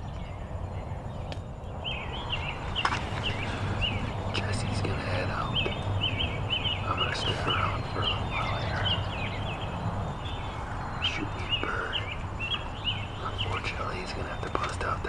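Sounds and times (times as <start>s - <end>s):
birds chirping: 0.0s - 15.0s
low background rumble: 0.0s - 15.0s.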